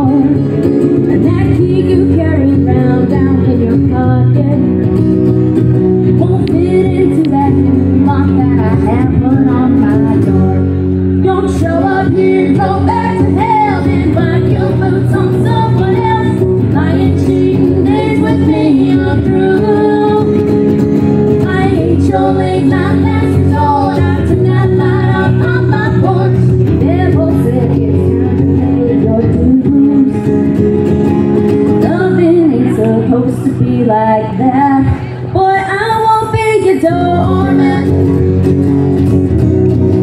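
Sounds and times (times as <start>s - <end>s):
woman singing: 0.0s - 4.9s, 6.0s - 20.7s, 21.3s - 30.6s, 31.7s - 38.2s
acoustic guitars playing chords: 0.0s - 40.0s.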